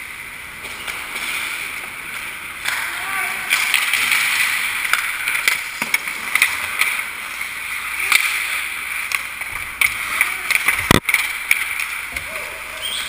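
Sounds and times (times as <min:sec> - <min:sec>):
hockey sticks and puck clacking: 0:00.0 - 0:13.0
skates scraping on ice: 0:00.0 - 0:13.0.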